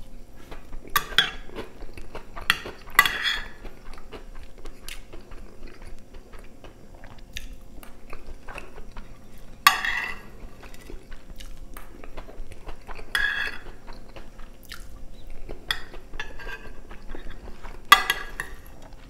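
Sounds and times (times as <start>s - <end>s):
chewing food: 0.0s - 19.0s
crunchy potato sticks: 0.0s - 19.0s.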